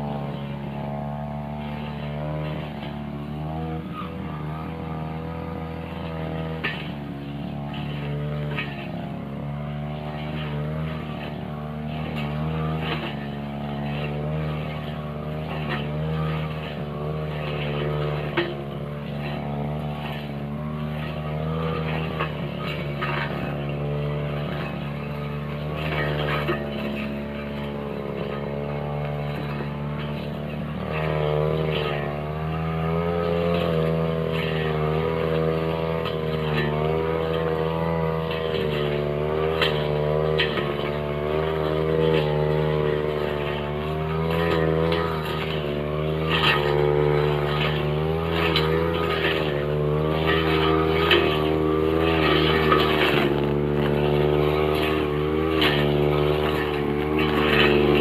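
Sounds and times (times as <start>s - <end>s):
blade ticking against stems: 0.0s - 58.0s
brush cutter engine revving: 0.0s - 58.0s.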